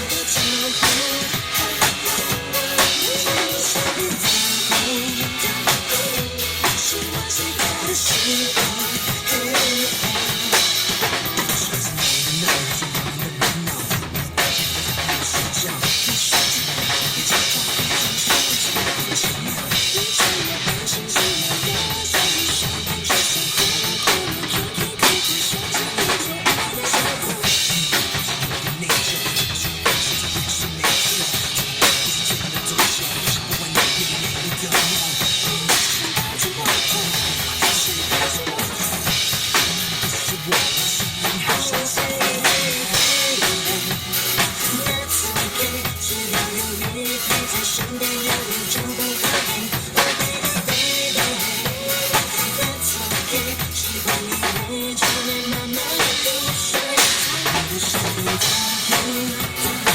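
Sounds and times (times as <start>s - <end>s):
drum kit beat: 0.0s - 59.9s
live band playing pop music: 0.0s - 59.9s.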